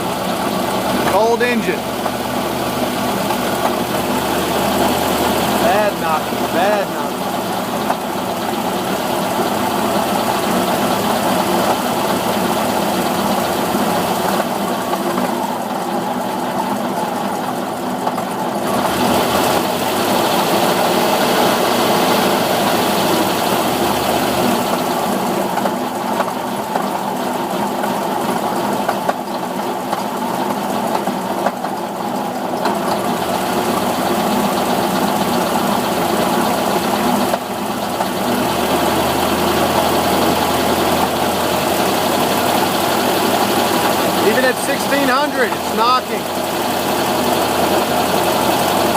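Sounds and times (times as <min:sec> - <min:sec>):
car engine knocking: 0:00.0 - 0:48.9.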